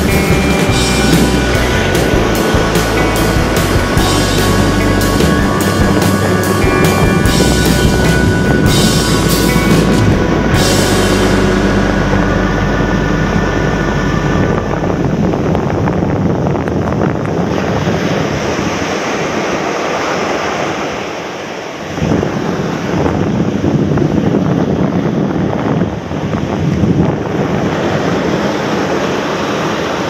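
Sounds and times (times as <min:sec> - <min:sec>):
surf breaking on beach: 0:00.0 - 0:30.0
wind buffeting microphone: 0:00.0 - 0:30.0.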